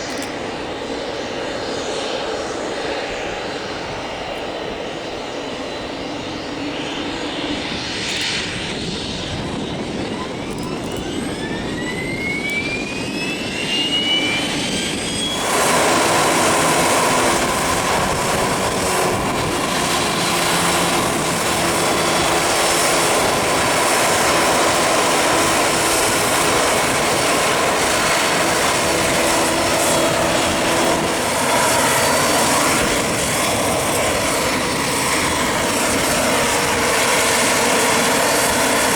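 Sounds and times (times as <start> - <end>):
jet engine whine and rush: 0.0 - 38.9.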